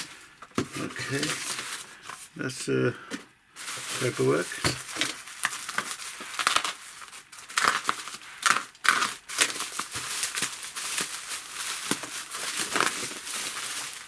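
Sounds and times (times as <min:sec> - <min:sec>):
packaging crackles: 0:00.0 - 0:02.3, 0:03.6 - 0:14.0
packaging crinkling and rustling: 0:00.0 - 0:02.3, 0:03.1 - 0:14.0.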